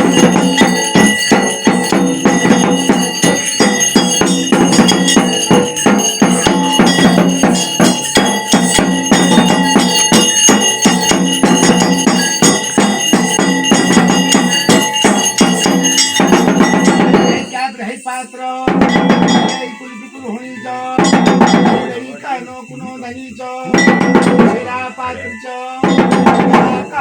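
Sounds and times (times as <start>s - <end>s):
drums beaten rapidly: 0.0s - 17.9s, 18.5s - 27.0s
jingling metal percussion: 0.0s - 27.0s
ringing bells: 0.0s - 27.0s.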